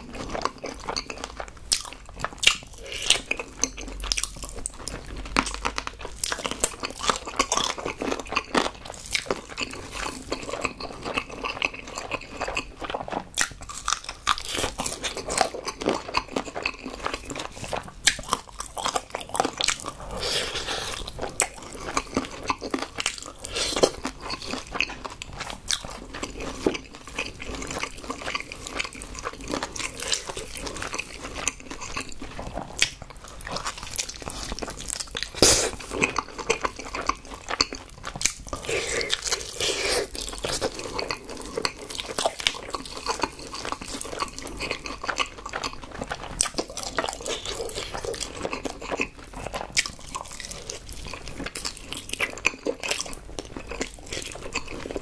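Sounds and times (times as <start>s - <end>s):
crunchy chewing of fried chicken: 0.0s - 55.0s.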